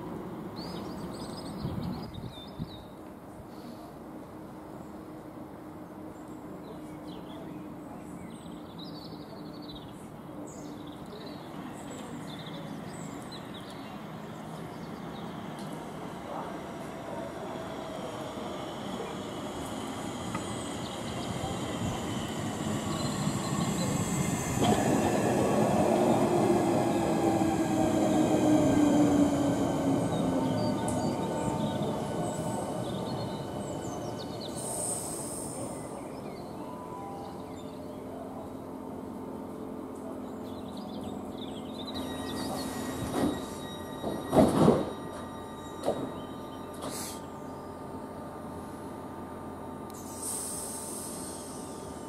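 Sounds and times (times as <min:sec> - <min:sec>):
rumble of wheels on rail: 0:00.0 - 0:52.0
steady train whine: 0:00.0 - 0:52.0.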